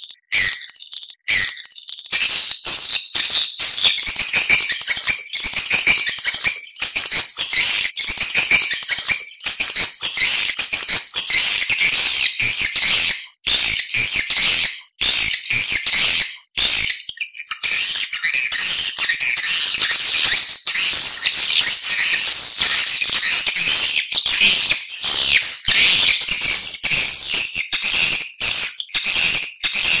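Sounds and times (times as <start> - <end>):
swiftlet chatter and twittering: 2.2 - 27.1.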